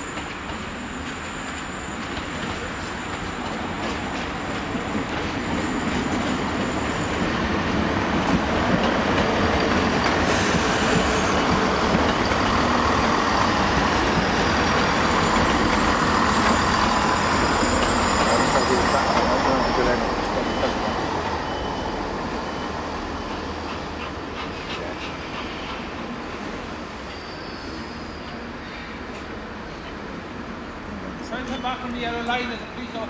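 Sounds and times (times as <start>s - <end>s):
steam locomotive running: 0.0s - 28.5s.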